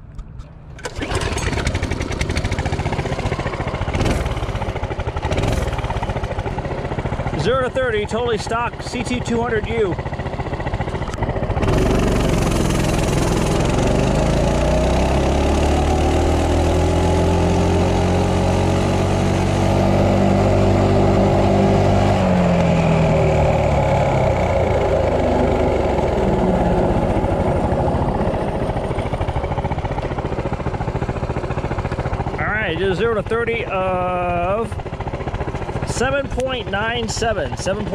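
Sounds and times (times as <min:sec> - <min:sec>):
minibike engine revving: 0:00.8 - 0:37.9.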